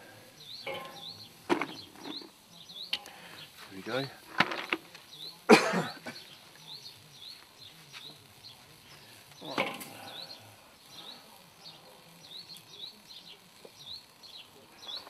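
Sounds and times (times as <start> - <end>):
small bird chirping: 0.4 - 3.9, 4.9 - 5.5, 6.1 - 15.0.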